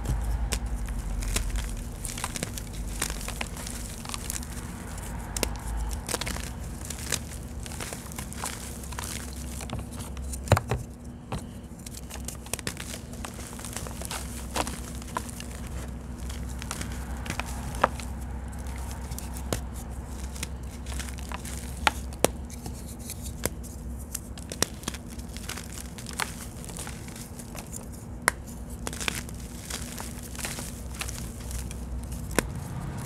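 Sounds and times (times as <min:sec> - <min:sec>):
chalk chunks snapping: 0:00.0 - 0:33.0
chalk crumbling by hand: 0:00.0 - 0:33.0
steady low hum: 0:00.0 - 0:33.0.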